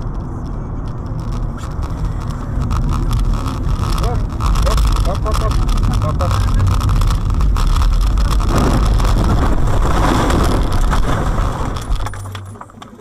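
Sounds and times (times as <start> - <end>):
car rolling over rumble: 0.0 - 13.0
impact knocks and clatter: 0.0 - 13.0.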